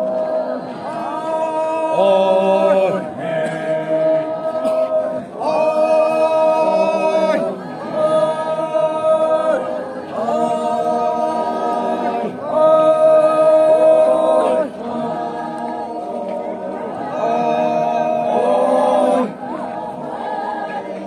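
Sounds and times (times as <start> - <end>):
men singing in unison: 0.0 - 21.0.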